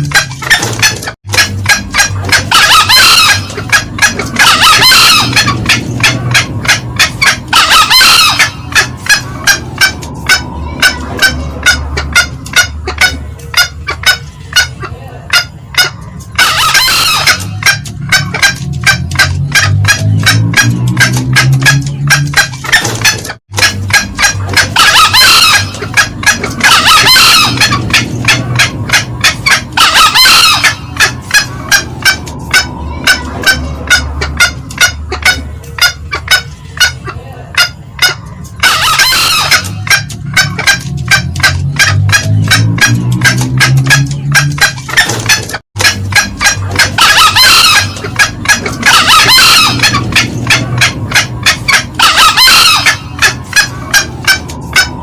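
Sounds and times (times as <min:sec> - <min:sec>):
junglefowl clucking: 0:00.0 - 0:55.0
rough crowing calls: 0:00.4 - 0:14.8, 0:15.4 - 0:55.0.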